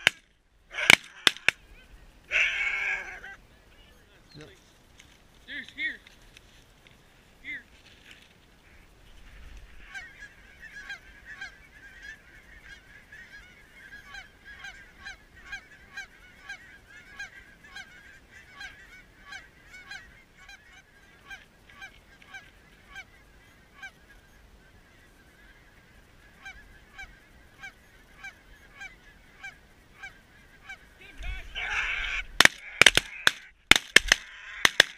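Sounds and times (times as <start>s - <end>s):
geese honking: 0.0s - 4.0s, 8.6s - 34.9s.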